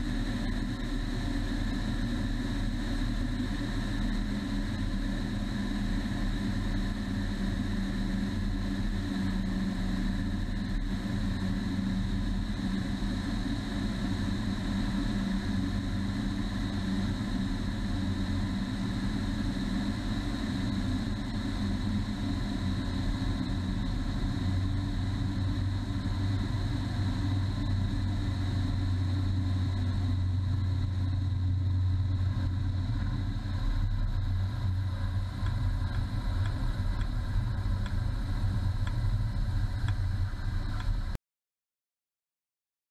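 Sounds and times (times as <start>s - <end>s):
floatplane engine droning in flight: 0.0s - 41.2s.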